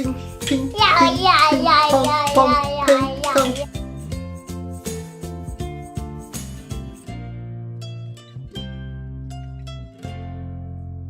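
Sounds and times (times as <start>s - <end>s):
plucked notes over strong bass: 0.5s - 11.0s.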